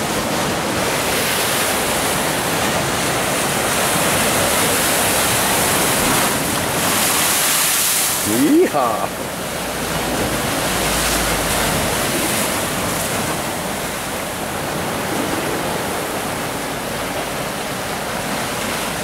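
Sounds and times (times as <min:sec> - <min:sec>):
surf breaking over rocks: 0:00.0 - 0:19.0.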